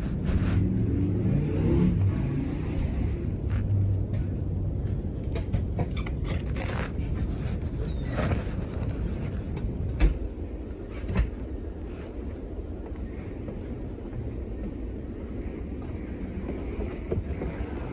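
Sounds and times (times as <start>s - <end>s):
steady low rumble: 0.0s - 17.9s.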